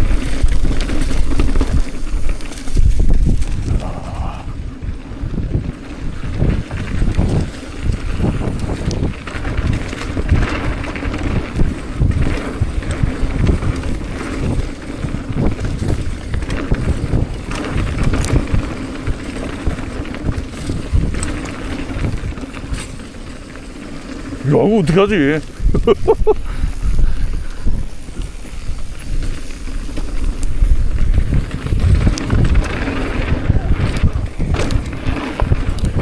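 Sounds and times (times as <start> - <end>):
bike knocks and rattles: 0.0 - 4.1, 4.8 - 36.0
tyres rumbling on dirt: 0.0 - 36.0
wind noise on microphone: 0.0 - 36.0.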